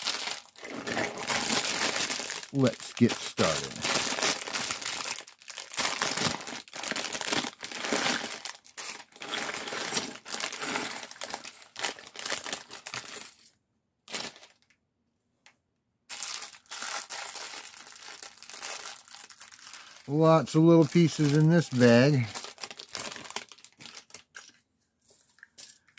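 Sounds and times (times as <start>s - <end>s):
plastic bag crinkling: 0.0s - 13.3s, 16.1s - 25.9s.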